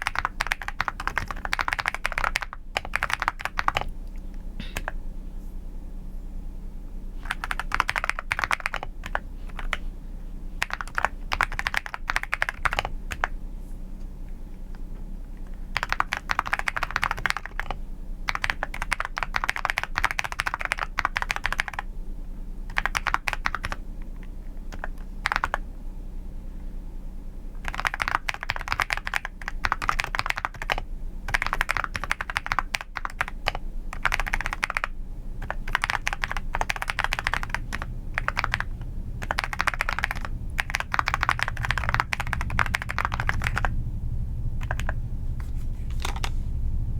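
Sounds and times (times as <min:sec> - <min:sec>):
computer keyboard typing: 0:00.0 - 0:05.0, 0:07.2 - 0:09.8, 0:10.6 - 0:13.4, 0:15.4 - 0:21.9, 0:22.7 - 0:25.6, 0:27.6 - 0:43.8, 0:44.6 - 0:46.4.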